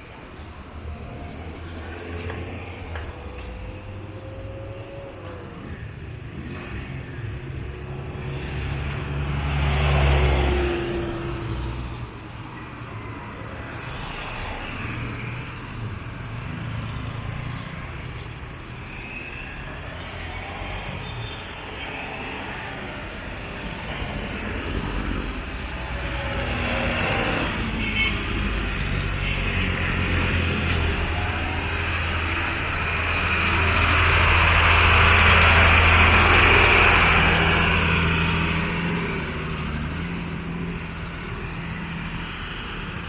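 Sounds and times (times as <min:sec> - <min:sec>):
cars and trucks passing: 0:00.0 - 0:43.0.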